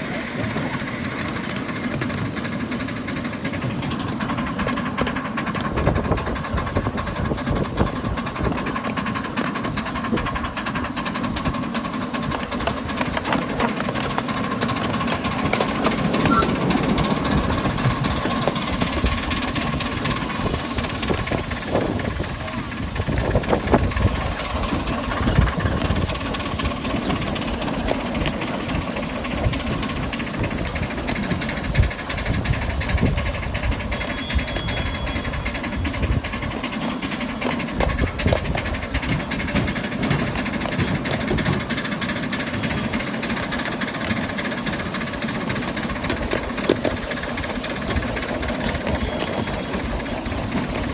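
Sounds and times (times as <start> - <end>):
steam locomotive knocking: 0.0 - 50.9
wheels running over track: 0.0 - 50.9.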